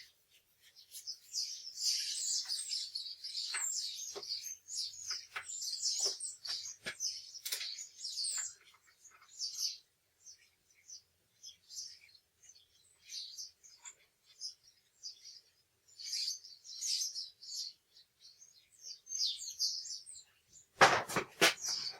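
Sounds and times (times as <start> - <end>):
bird chirping and twittering: 0.0 - 20.8, 21.4 - 21.9.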